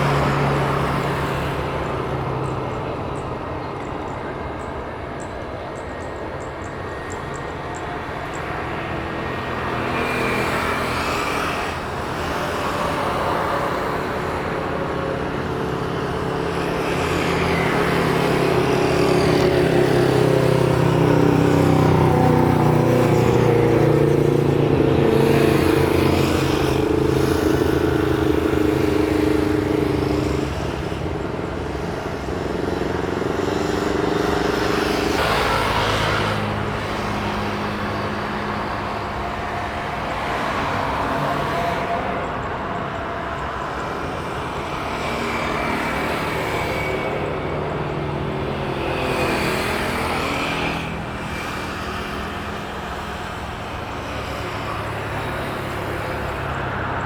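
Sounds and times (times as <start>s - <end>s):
passing vehicle engine: 0.0s - 4.6s, 6.8s - 57.0s.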